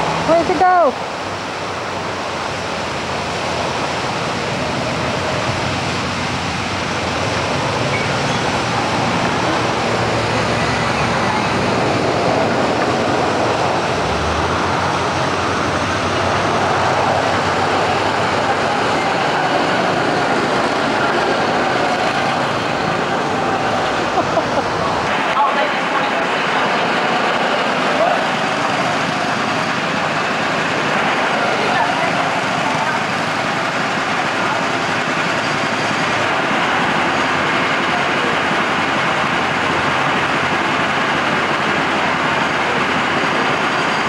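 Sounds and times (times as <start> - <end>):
go-kart engines droning: 1.8 - 44.0.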